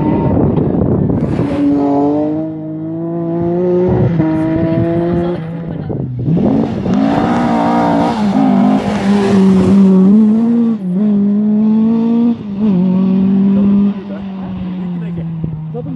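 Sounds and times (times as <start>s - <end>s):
rally car engine revving past: 0.0s - 15.7s.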